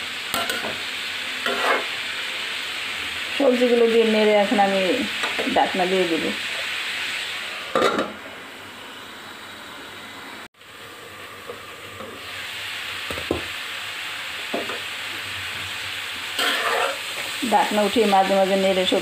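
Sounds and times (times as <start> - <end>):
vegetables and egg sizzling in pan: 0.0 - 19.0.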